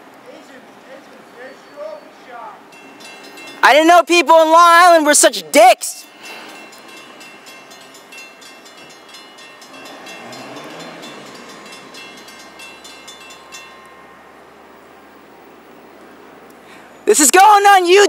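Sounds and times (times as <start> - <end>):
diesel train approaching: 0.0 - 17.8.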